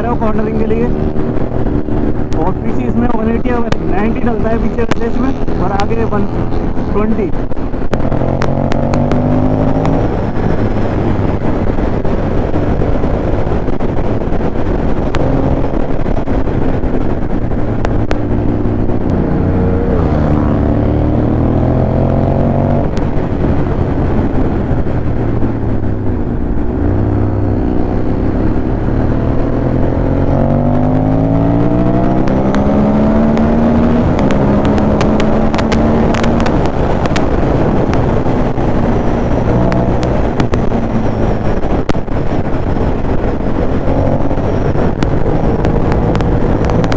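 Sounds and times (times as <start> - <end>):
motorcycle engine accelerating: 0.0 - 46.9
wind rushing over microphone: 0.0 - 46.9.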